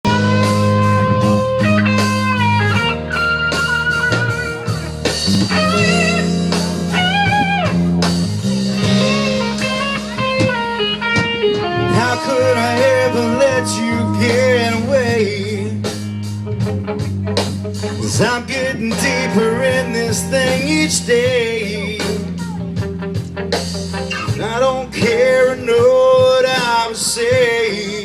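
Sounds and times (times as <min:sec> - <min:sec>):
electric guitar lead lines: 0:00.0 - 0:28.0
steady bass: 0:00.0 - 0:28.0.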